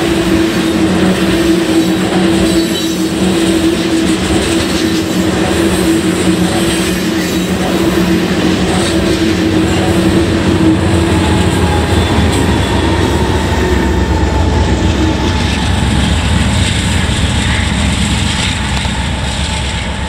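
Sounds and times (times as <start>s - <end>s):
freight train rumble: 0.0s - 20.0s
locomotive engines droning: 0.0s - 20.0s.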